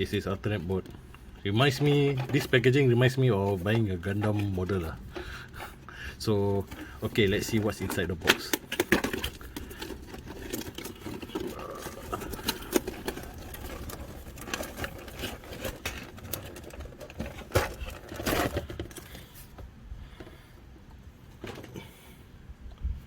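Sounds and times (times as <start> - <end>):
cardboard and plastic scraping: 0.0 - 20.4, 21.3 - 22.0.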